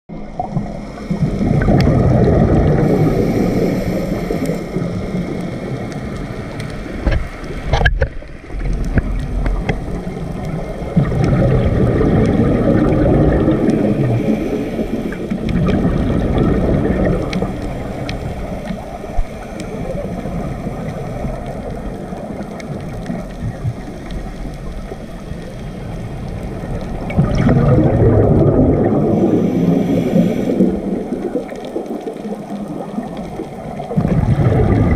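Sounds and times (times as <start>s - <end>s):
underwater regulator bubbling: 0.2s - 34.9s.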